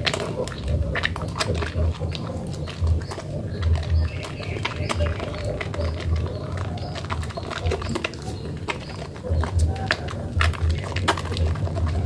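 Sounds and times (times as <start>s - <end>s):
dull low thumps: 0.0s - 12.0s.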